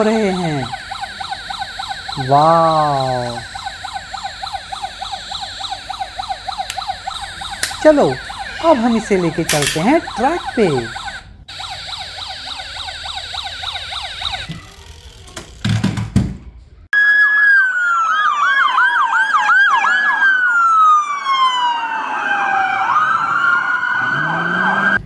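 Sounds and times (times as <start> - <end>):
police siren wailing: 0.0 - 14.9, 17.0 - 25.0
police siren yelp: 0.0 - 14.9, 17.0 - 25.0.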